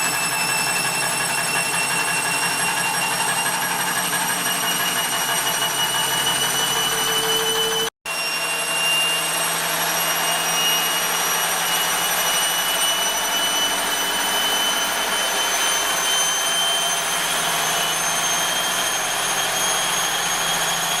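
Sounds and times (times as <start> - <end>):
washing machine motor whine: 0.0 - 21.0.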